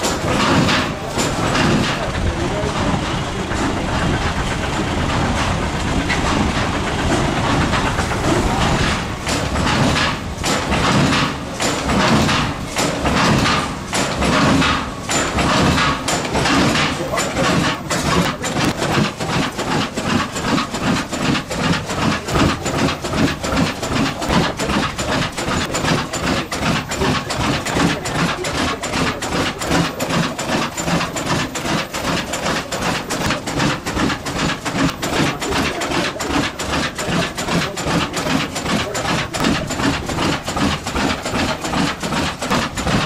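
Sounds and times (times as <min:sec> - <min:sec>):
engine knocking clatter: 0:00.0 - 0:43.0.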